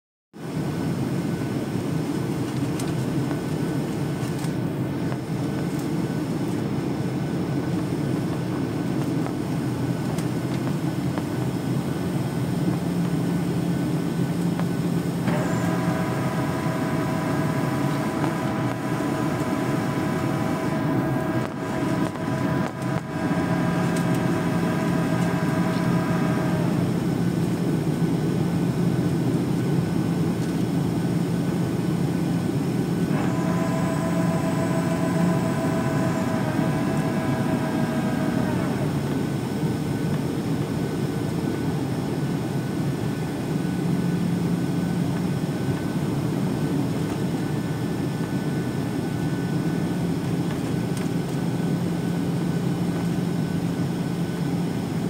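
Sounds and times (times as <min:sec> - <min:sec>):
jet engines and airflow: 0:00.4 - 0:55.0
multi-tone whine: 0:00.4 - 0:55.0.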